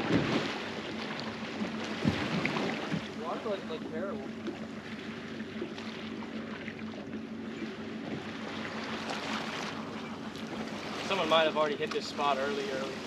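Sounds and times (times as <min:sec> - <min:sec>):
water sloshing against hull: 0:00.0 - 0:13.0.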